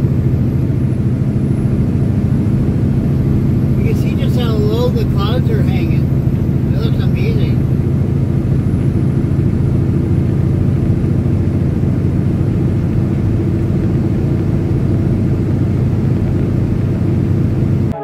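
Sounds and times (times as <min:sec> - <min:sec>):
truck diesel engine drone: 0:00.0 - 0:18.0.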